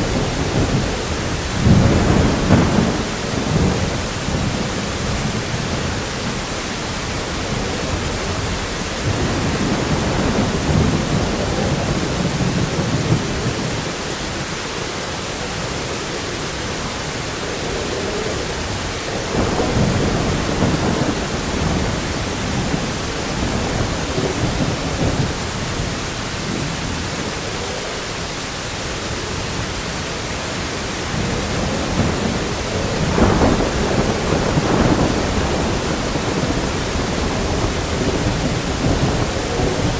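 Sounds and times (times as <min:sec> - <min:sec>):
heavy rain hiss: 0:00.0 - 0:39.9
rolling thunder: 0:00.0 - 0:39.9.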